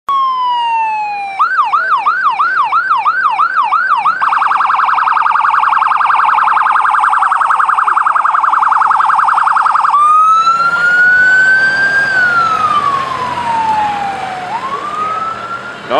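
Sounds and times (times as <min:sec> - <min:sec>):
electronic siren wailing and yelping: 0:00.1 - 0:15.9.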